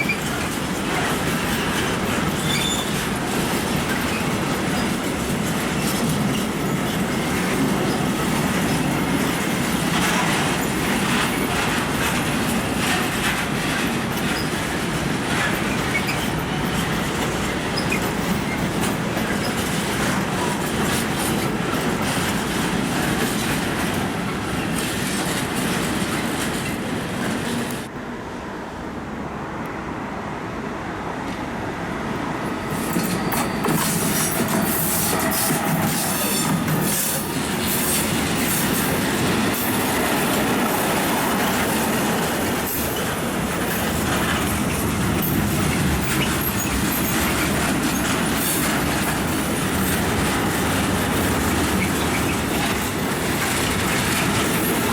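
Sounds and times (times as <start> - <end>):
clatter over rail joints: 0.0 - 27.9, 32.7 - 54.9
train wheels on rails: 0.0 - 54.9.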